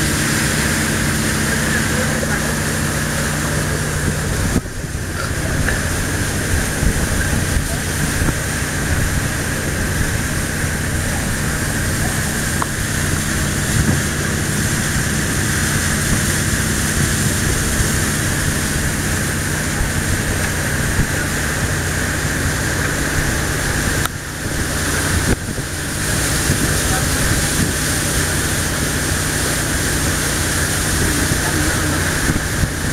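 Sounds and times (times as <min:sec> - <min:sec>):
boat engine droning: 0:00.0 - 0:32.9
water rushing past hull: 0:00.0 - 0:32.9.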